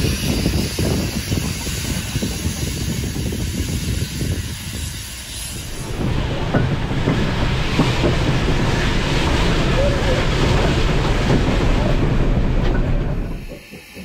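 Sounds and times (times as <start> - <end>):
steam hissing: 0.0 - 14.0
locomotive running gear rumble: 0.2 - 14.0.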